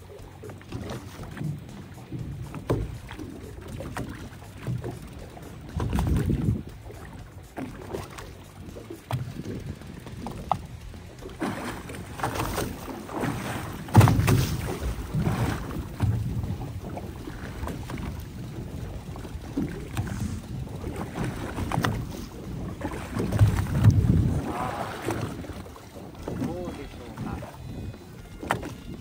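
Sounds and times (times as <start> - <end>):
boat bumps and knocks: 0.0 - 29.0
water sloshing against boat hull: 0.0 - 29.0.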